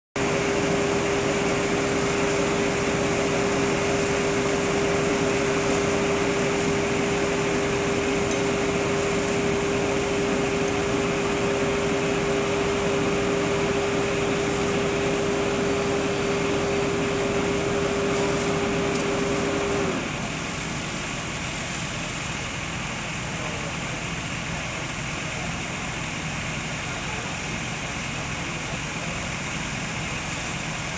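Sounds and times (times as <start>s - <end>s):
fire engine pumps running: 0.2s - 30.9s
hoses spraying water: 0.2s - 30.9s.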